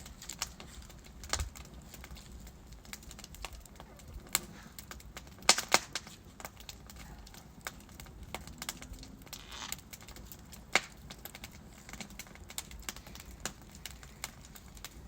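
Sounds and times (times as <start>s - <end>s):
burning logs popping: 0.0s - 15.0s
fireplace crackling: 0.0s - 15.0s.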